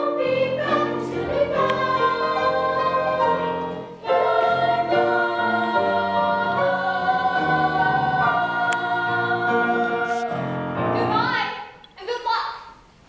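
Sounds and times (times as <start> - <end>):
choir singing long held notes: 0.0 - 11.0.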